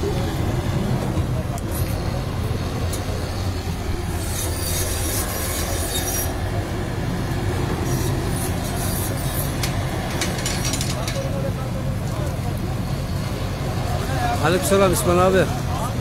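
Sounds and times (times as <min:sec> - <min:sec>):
heavy machinery engine humming: 0:00.0 - 0:16.0.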